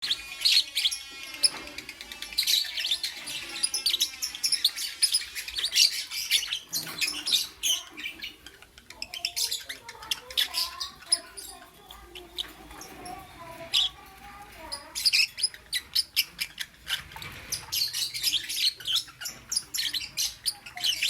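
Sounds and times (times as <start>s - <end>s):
lovebirds chirping: 0.0s - 21.0s.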